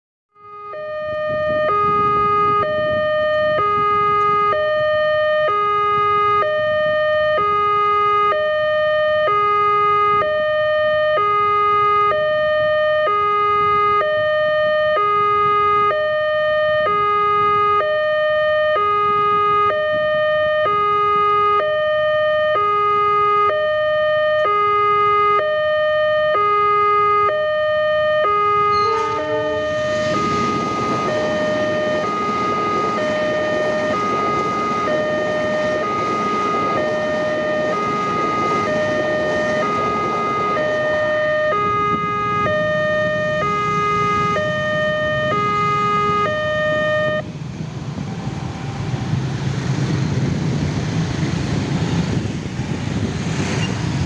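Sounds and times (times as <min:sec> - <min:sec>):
level crossing alarm: 0:00.4 - 0:47.3.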